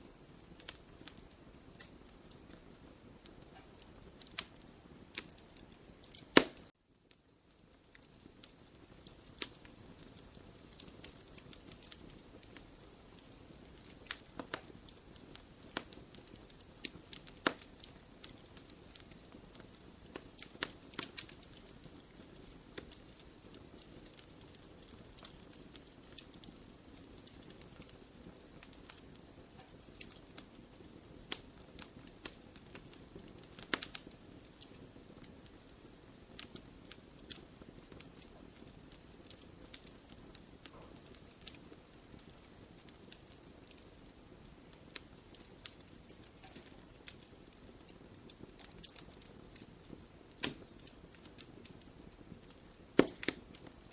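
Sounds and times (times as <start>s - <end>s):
fire crackling and popping: 0.0s - 53.9s
low fire rumble: 0.0s - 53.9s.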